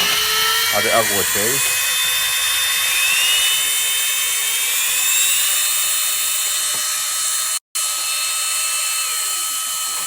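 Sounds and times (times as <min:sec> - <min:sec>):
handheld vacuum cleaner whine: 0:00.0 - 0:10.0.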